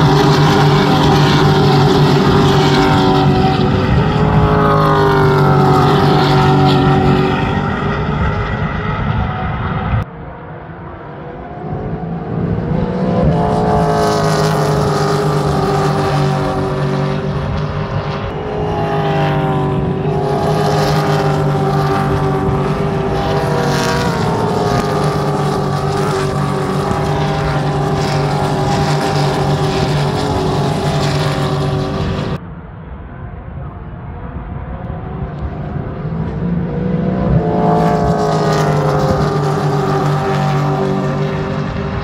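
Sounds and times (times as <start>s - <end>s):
racing car engines at full throttle: 0.0s - 42.0s.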